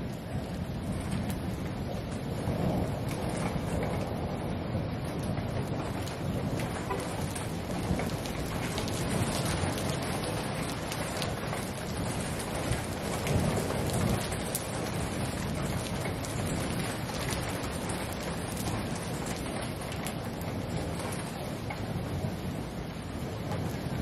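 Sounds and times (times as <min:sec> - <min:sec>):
low rumble of thunder: 0:00.0 - 0:24.0
raindrops ticking: 0:00.0 - 0:24.0
steady rain: 0:00.0 - 0:24.0.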